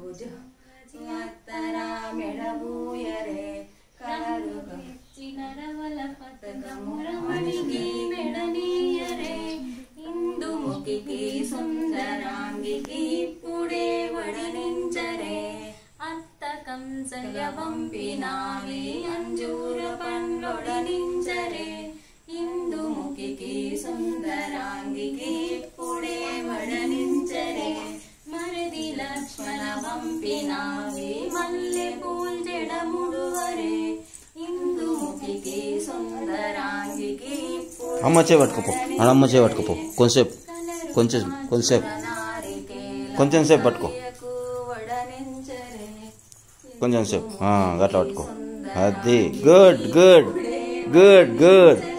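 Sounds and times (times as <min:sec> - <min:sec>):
women singing unaccompanied: 0:00.0 - 0:51.9.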